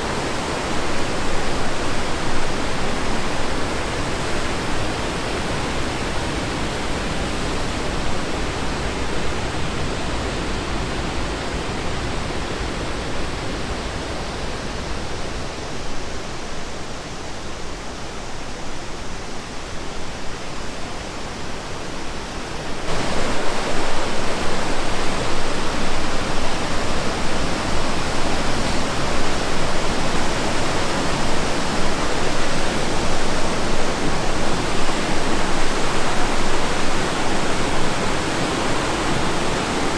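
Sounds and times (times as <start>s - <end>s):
river water rushing over falls: 0.0s - 39.9s.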